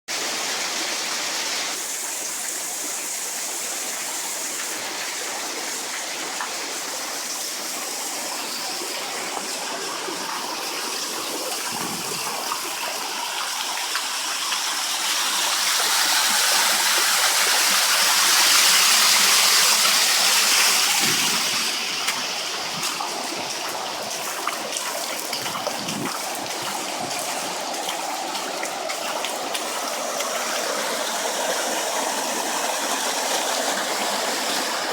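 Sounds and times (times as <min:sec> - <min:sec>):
floodwater rushing: 0:00.1 - 0:34.9.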